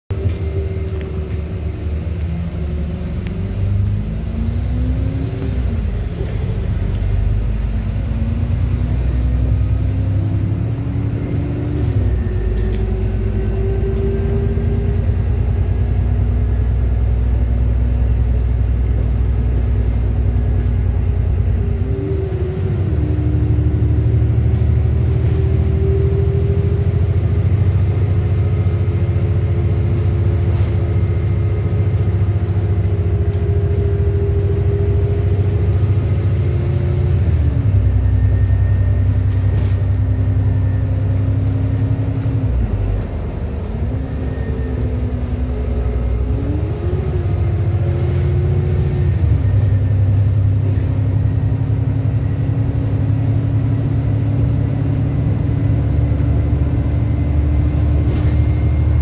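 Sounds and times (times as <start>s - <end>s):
bus engine rumble: 0.1s - 59.0s.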